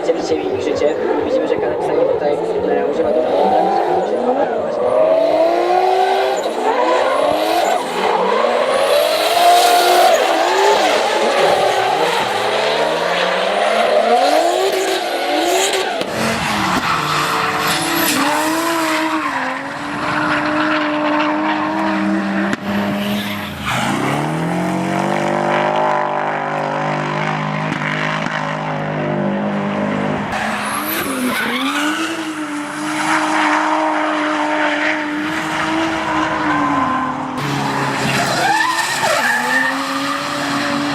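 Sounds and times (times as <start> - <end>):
tyres screeching on asphalt: 2.0 - 40.9
car engine revving hard: 3.1 - 40.9.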